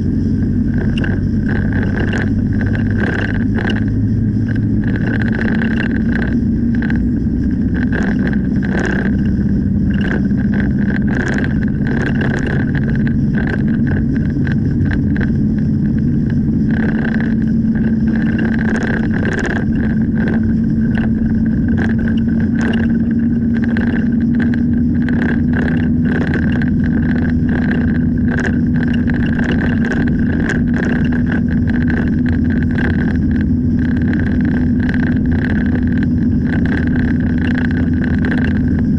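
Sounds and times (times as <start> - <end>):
car engine and road hum: 0.0 - 38.9
small ticks and rattles: 0.0 - 38.9.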